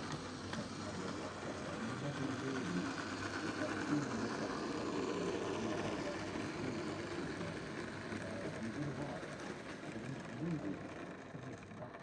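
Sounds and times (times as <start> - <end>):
model railcar motor whirring: 0.0 - 12.0.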